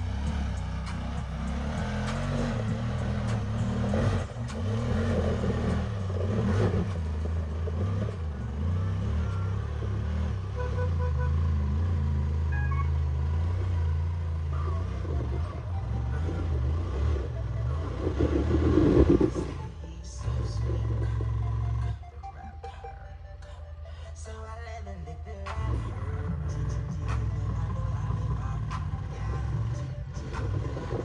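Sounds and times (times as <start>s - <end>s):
off-road vehicle engine revving: 0.0s - 31.0s.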